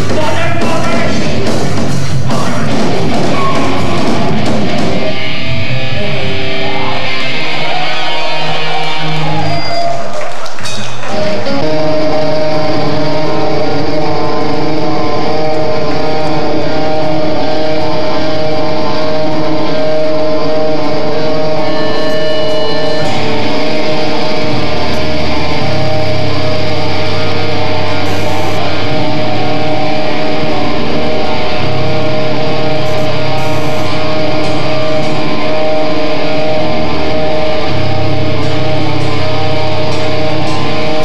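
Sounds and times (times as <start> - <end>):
bass guitar: 0.0 - 41.0
electric guitar: 0.0 - 41.0.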